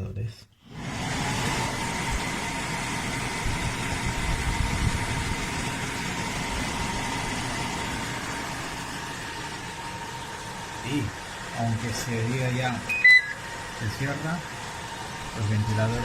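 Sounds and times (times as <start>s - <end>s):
cooling fans whirring: 0.0s - 16.0s.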